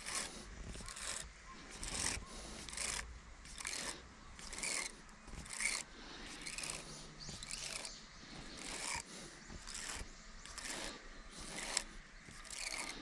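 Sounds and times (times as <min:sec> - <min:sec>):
fishing reel rasping swish: 0:00.0 - 0:13.0.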